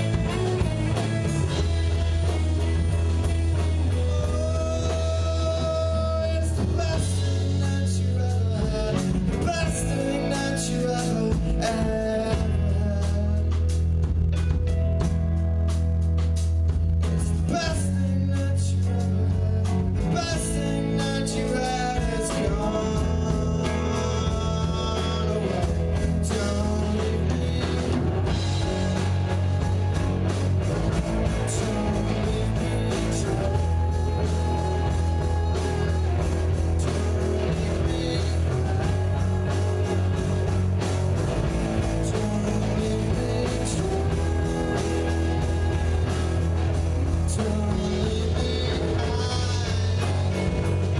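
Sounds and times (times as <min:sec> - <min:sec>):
drum kit beat: 0:00.0 - 0:50.9
electric guitars: 0:00.0 - 0:50.9.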